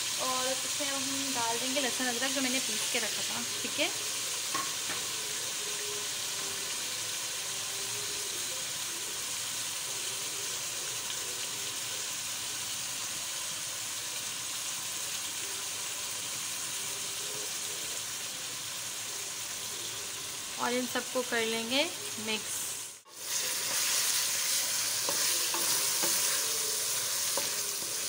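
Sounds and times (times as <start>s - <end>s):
chicken frying in oil: 0.0s - 28.0s.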